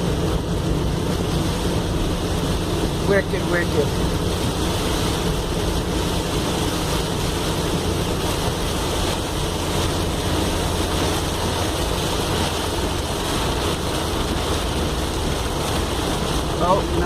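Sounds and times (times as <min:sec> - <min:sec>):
rain rushing on car: 0:00.0 - 0:17.0
road and engine drone: 0:00.0 - 0:17.0.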